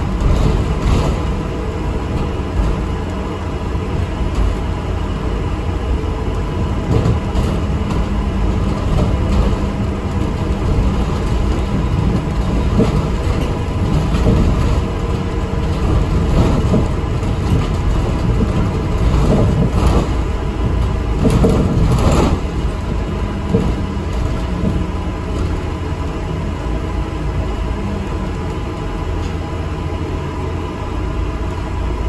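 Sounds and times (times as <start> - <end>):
bus body rattling: 0.0 - 32.0
bus engine and road rumble: 0.0 - 32.0.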